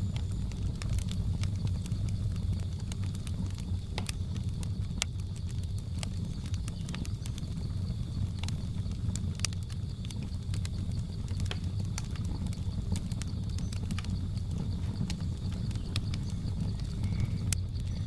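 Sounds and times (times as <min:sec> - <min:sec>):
jungle insects droning: 0:00.0 - 0:18.0
wood fire crackling and popping: 0:00.0 - 0:18.0.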